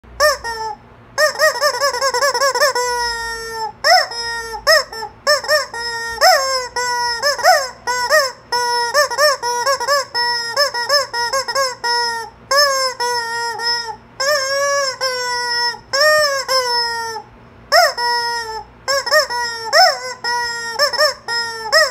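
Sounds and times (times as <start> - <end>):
rubber chicken toy squawking: 0.2 - 21.9.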